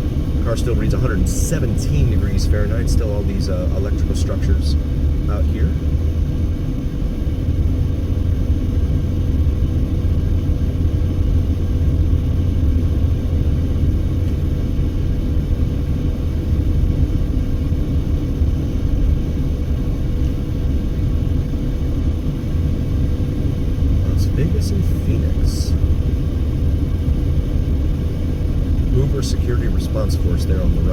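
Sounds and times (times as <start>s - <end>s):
car road noise rumble: 0.0s - 30.9s
faint steady hum: 0.0s - 30.9s.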